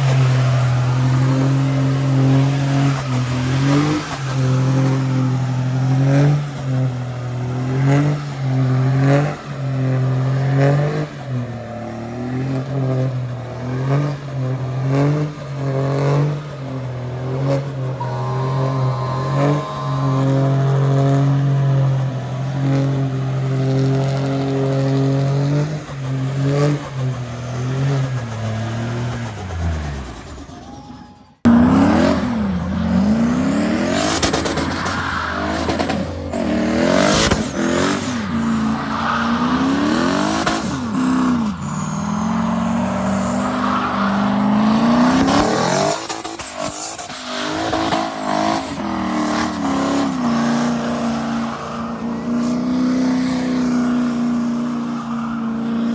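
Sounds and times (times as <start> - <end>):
engine at high revs: 0.0 - 30.7, 31.4 - 55.9
engine revving up and down: 0.0 - 30.7, 31.4 - 55.9.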